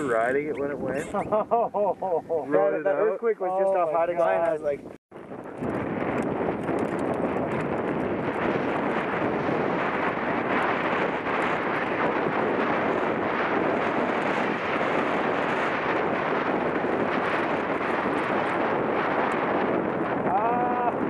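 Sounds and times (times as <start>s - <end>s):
wind rushing on microphone: 0.0s - 21.0s.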